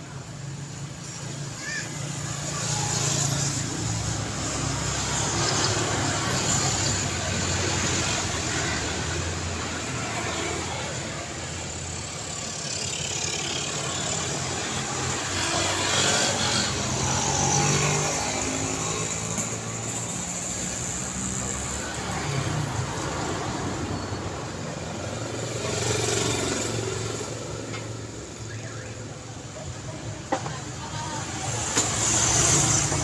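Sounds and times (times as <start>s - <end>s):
passing cars: 0.0s - 33.0s.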